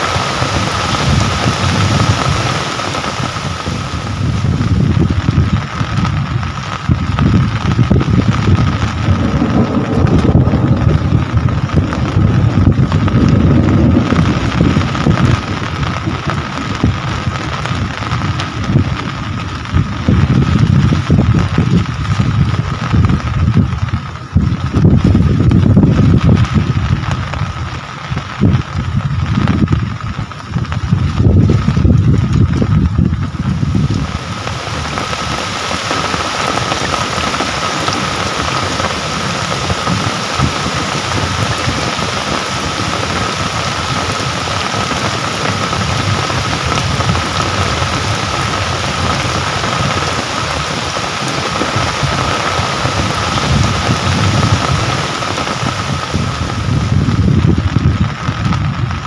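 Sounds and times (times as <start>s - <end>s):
heavy low rumble: 0.0s - 59.0s
rain hiss: 0.0s - 59.0s.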